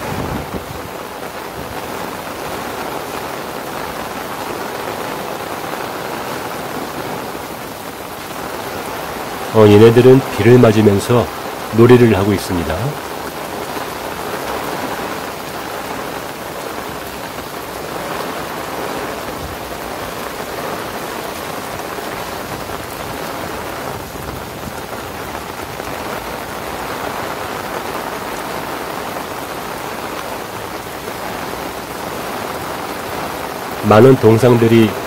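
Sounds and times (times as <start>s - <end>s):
heavy rain on grass and boardwalk: 0.0s - 35.0s.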